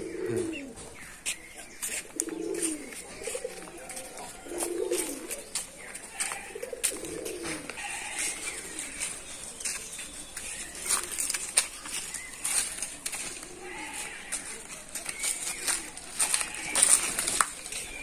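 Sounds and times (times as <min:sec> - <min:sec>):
low cooing bird calls: 0:00.0 - 0:18.0.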